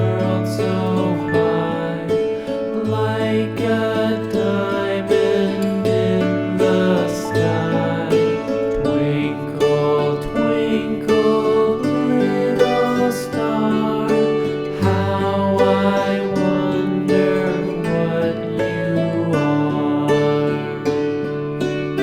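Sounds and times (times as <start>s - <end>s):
plucked string lullaby music: 0.0s - 22.0s.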